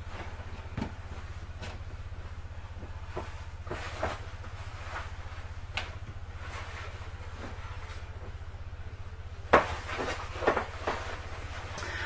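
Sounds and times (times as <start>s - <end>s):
clothes rustling: 0.0s - 8.6s, 9.4s - 12.0s
steady low hum: 0.0s - 12.0s.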